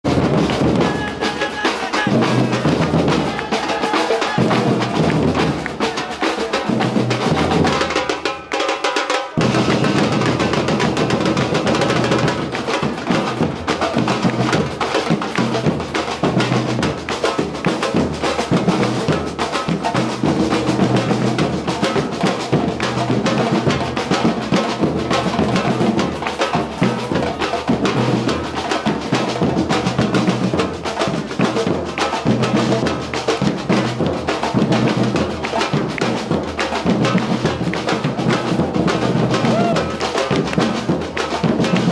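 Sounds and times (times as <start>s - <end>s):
bass drums beaten with mallets: 0.0s - 8.2s, 9.4s - 41.9s
snare drums: 0.0s - 41.9s.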